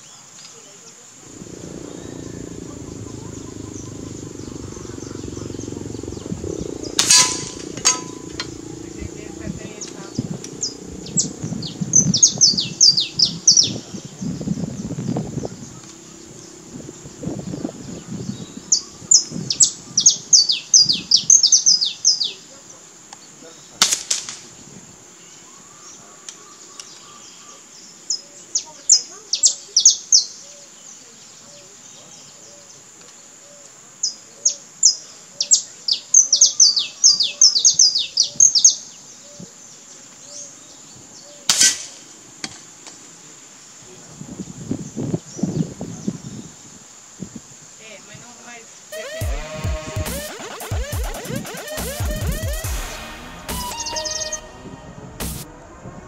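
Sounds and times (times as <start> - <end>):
songbird chirping: 0.0 - 23.8, 24.6 - 56.0.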